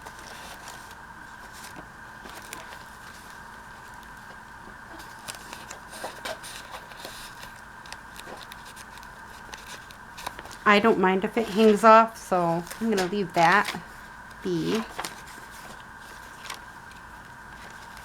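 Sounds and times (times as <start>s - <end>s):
faint steady hum: 0.0s - 18.0s
paper rustling and scraping: 0.0s - 18.0s.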